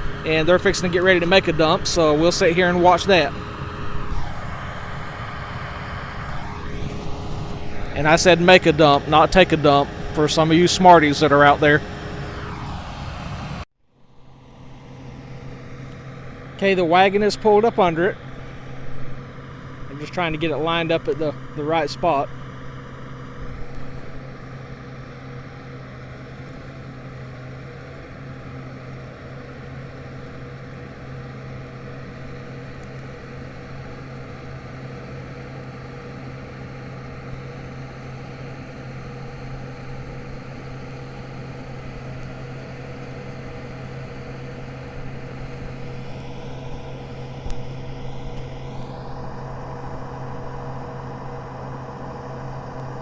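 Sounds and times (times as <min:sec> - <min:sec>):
tractor and combine droning: 0:00.0 - 0:53.0.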